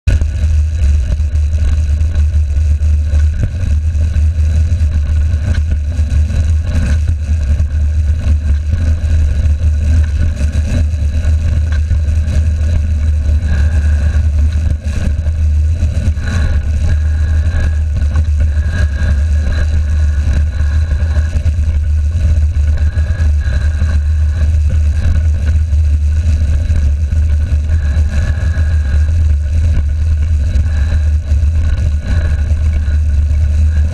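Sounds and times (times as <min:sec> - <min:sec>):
wind on camera: 0:00.1 - 0:33.9.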